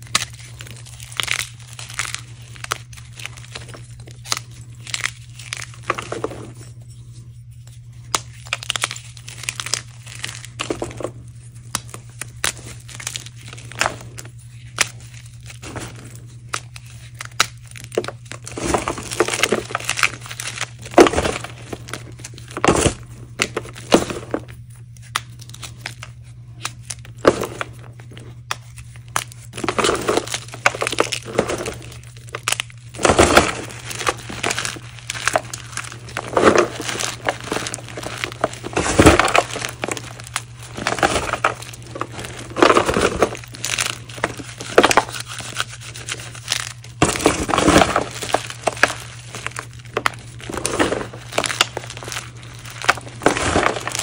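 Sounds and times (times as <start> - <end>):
chalk crunching and crumbling: 0.0 - 54.0
low hum: 0.0 - 54.0.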